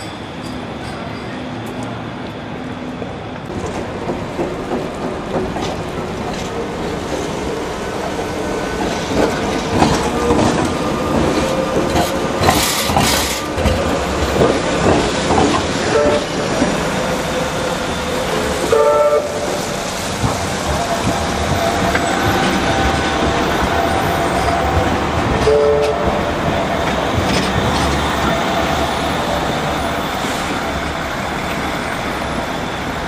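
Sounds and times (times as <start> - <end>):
tram wheels clattering over rails: 0.0 - 33.0.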